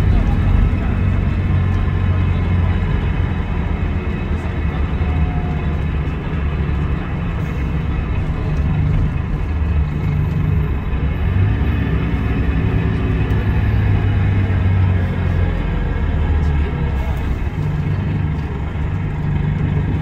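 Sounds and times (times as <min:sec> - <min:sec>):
diesel coach engine running: 0:00.0 - 0:20.0.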